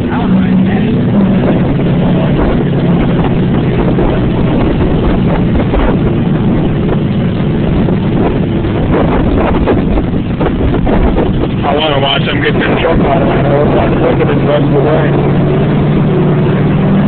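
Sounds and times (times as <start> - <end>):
engine humming: 0.0 - 17.0
wind buffeting microphone: 0.0 - 17.0.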